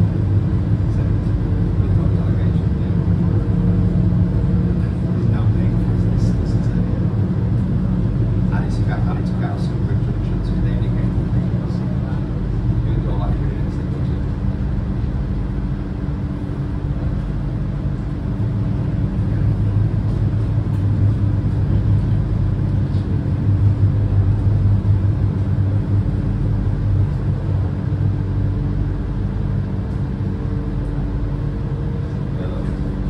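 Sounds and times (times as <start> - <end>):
tram hum and rumble: 0.0 - 33.0.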